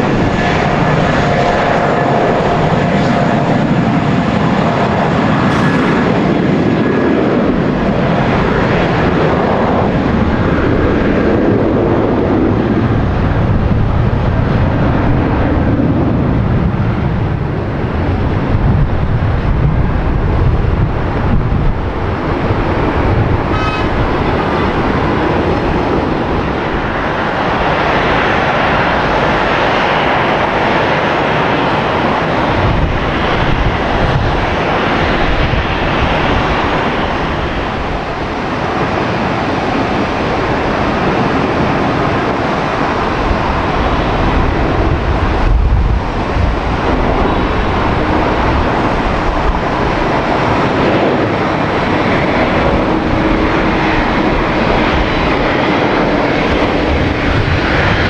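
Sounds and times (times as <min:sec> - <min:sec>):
airliner engines whooshing: 0:00.0 - 0:58.0.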